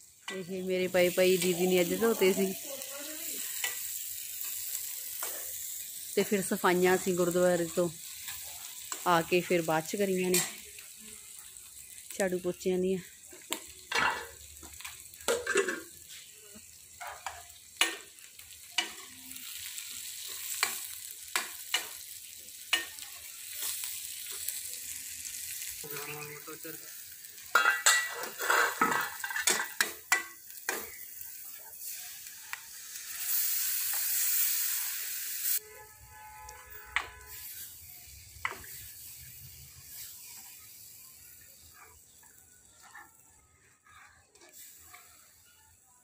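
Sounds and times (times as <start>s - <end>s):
onions frying in oil: 0.0s - 46.0s.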